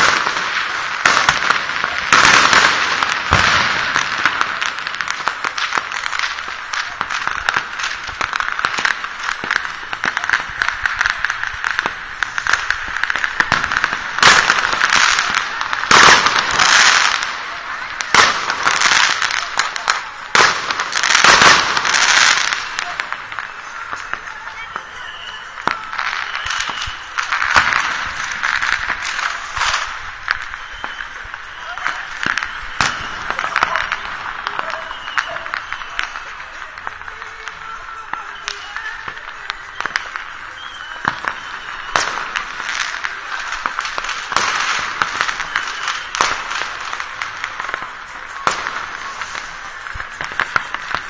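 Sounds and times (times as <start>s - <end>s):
sharp firework bangs: 0.0s - 24.2s, 25.6s - 51.0s
fireworks crackling and popping: 0.0s - 51.0s.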